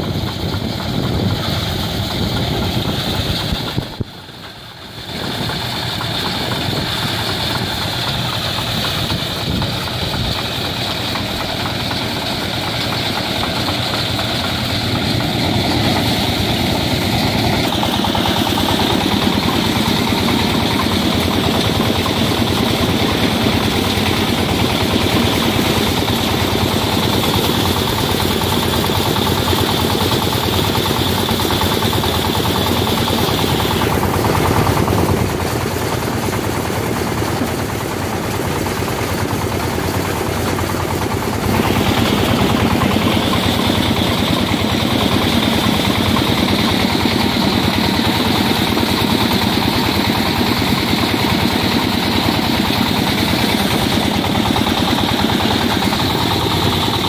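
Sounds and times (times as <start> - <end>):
thresher machine droning: 0.0 - 57.0.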